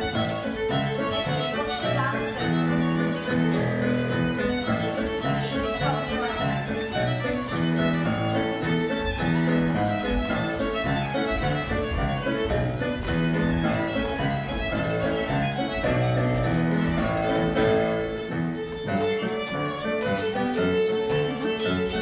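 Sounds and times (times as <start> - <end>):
fiddle dance music: 0.0 - 22.0.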